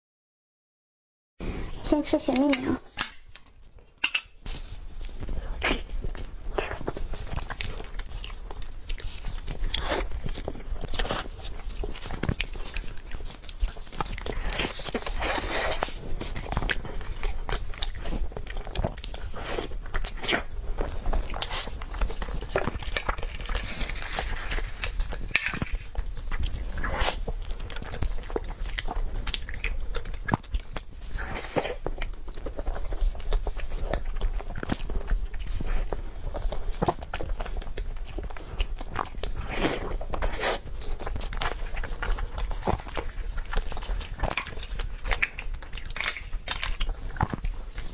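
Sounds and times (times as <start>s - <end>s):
biting and chewing: 3.0s - 47.9s.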